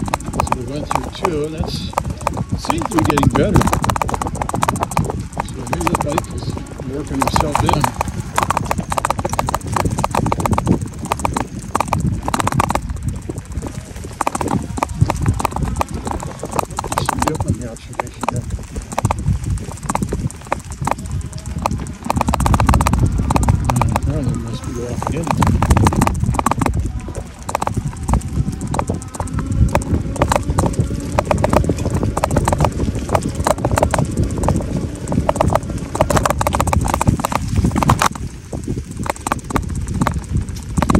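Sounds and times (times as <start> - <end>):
e-bike clicking and rattling: 0.0 - 40.9
wind rumble on microphone: 0.0 - 40.9.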